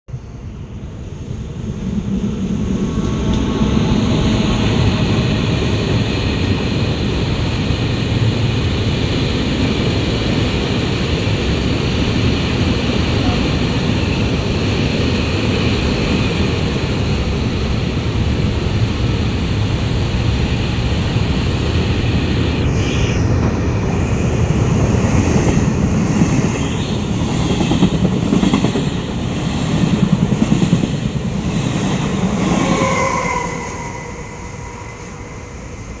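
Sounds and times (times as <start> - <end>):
electric train passing: 0.1 - 36.0.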